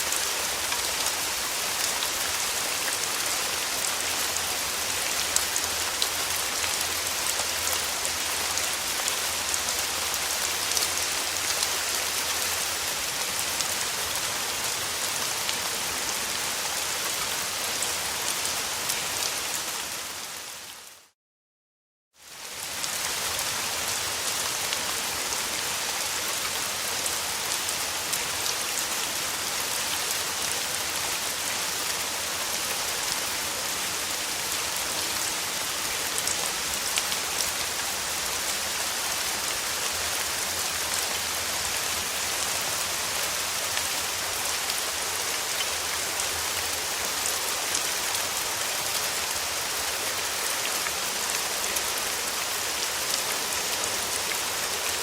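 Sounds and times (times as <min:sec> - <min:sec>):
rain falling: 0:00.0 - 0:21.2, 0:22.2 - 0:55.0.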